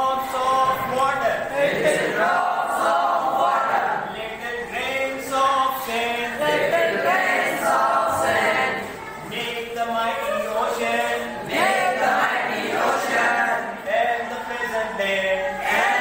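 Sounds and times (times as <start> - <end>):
class chanting in unison: 0.6 - 16.0.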